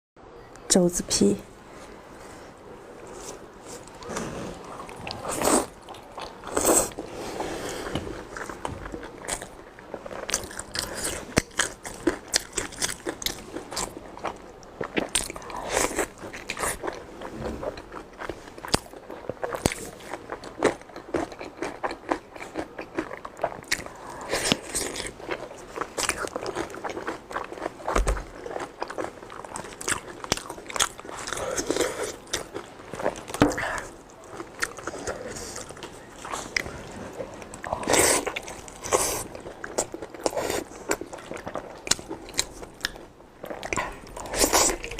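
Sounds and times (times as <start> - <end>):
crunchy chewing close up: 3.0 - 44.9.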